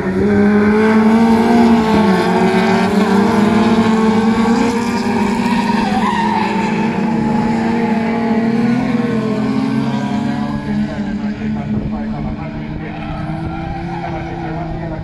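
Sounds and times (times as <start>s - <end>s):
race car engines racing: 0.0s - 15.0s.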